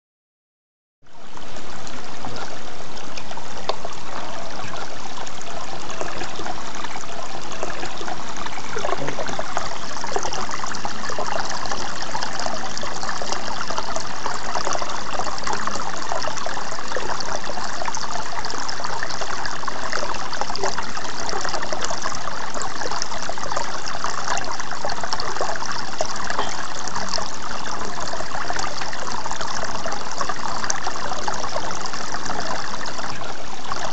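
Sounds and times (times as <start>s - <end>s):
water splashing into pond: 1.4s - 33.9s.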